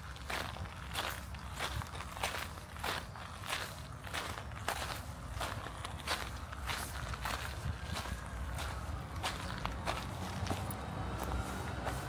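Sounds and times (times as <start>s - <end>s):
footsteps crunching on gravel: 0.0s - 12.0s.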